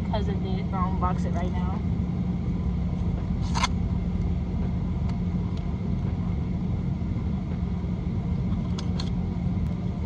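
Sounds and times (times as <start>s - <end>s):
car rumble from inside cabin: 0.0s - 10.0s.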